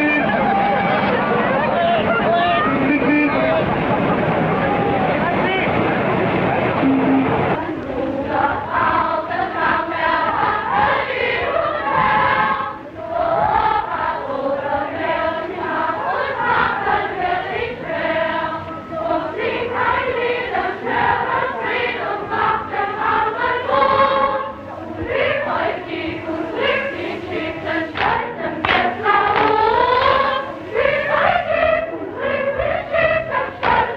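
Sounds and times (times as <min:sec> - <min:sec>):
choir singing: 0:00.0 - 0:05.4, 0:06.3 - 0:33.9.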